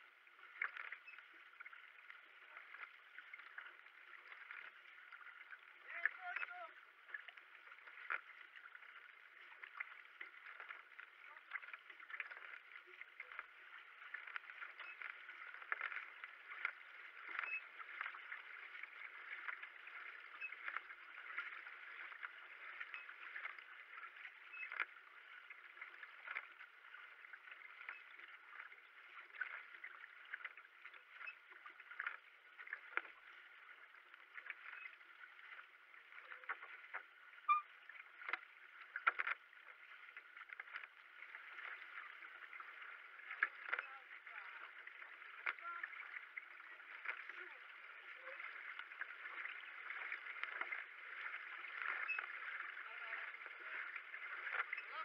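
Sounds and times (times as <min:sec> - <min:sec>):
paddle strokes splashing: 0:00.0 - 0:55.0
water rushing along hull: 0:00.0 - 0:55.0.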